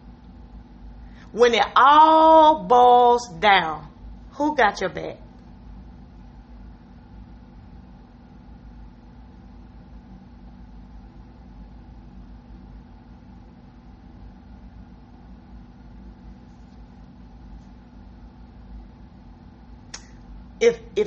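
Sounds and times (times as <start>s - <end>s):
low background hum with hiss: 0.0s - 21.0s.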